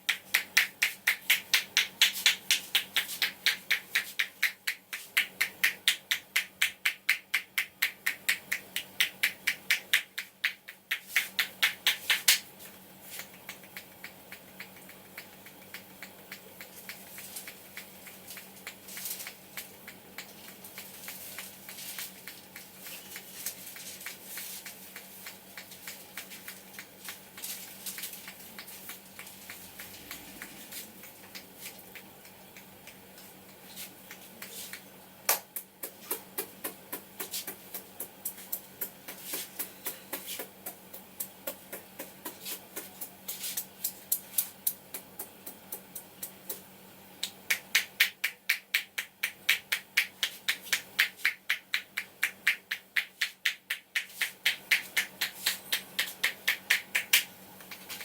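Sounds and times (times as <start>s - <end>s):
hands slapping and tapping: 0.0s - 58.0s.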